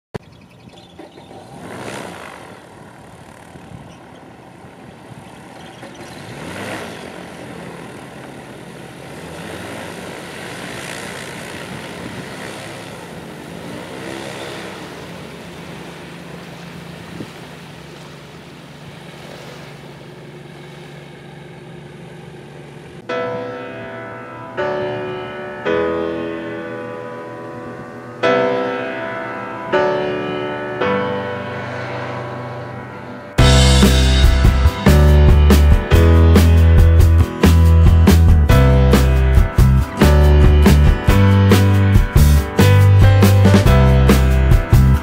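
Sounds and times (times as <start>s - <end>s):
propeller aircraft engines droning: 0.2s - 45.0s.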